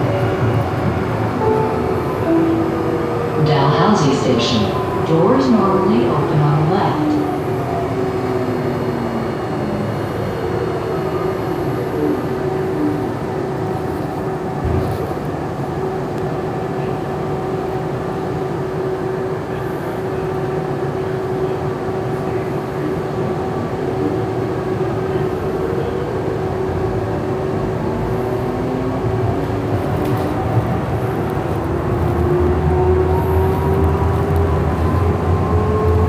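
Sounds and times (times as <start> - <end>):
light rail vehicle hum: 0.0 - 36.0
wheels rumbling on rails: 0.0 - 36.0.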